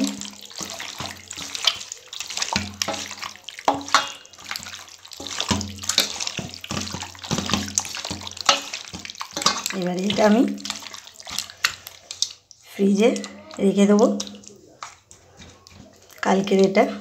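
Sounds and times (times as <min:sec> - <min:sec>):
hands squelching raw chicken: 0:00.0 - 0:17.0.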